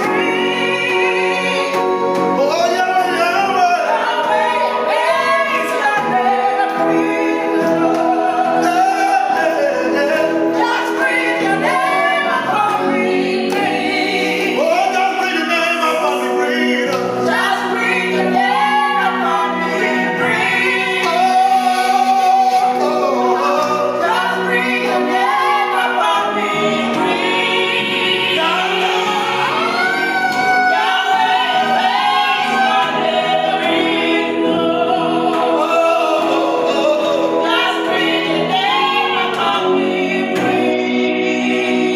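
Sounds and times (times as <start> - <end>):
choir singing church music: 0.0 - 41.9.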